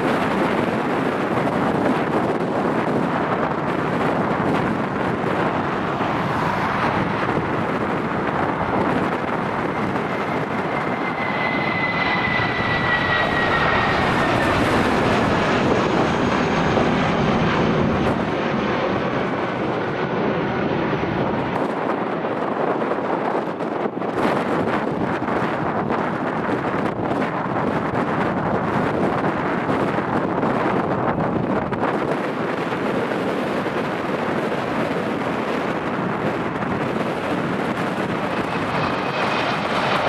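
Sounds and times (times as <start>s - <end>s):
airliner engines rumbling: 0.0s - 40.0s
jet engine whine: 0.0s - 40.0s.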